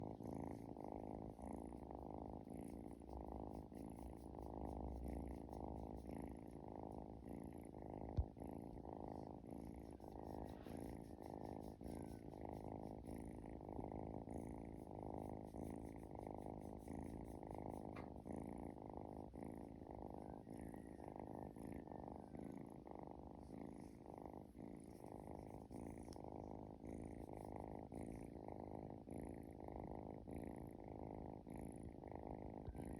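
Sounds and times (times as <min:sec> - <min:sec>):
cat snoring: 0:00.0 - 0:32.9.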